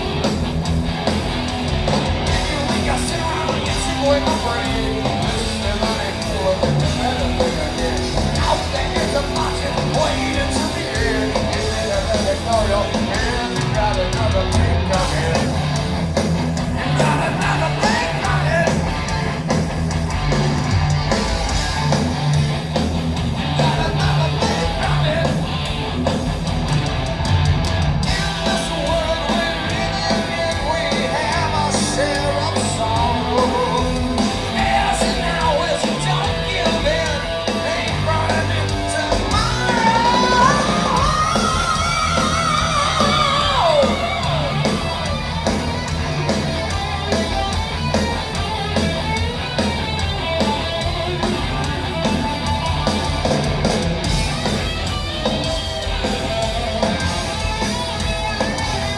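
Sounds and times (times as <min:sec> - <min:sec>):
heavy metal band playing live: 0:00.0 - 0:58.9
wavering lead guitar line: 0:00.0 - 0:58.9.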